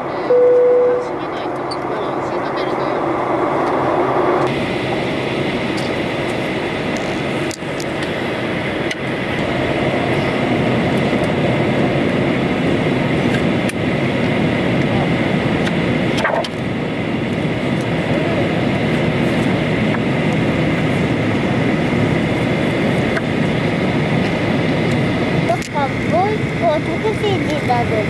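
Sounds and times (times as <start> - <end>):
jet airliner cabin roar: 0.0 - 28.0.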